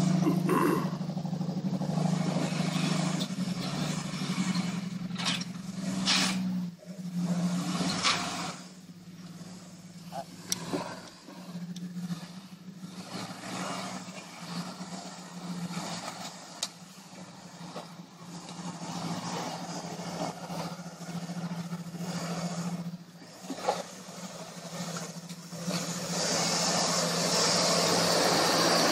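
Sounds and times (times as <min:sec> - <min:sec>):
car engine running at low revs: 0:00.0 - 0:28.9.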